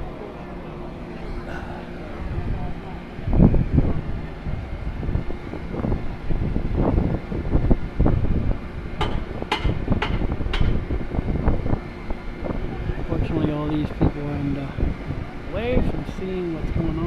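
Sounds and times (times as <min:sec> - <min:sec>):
low rumble: 0:00.0 - 0:17.0
wind buffeting microphone: 0:00.9 - 0:17.0.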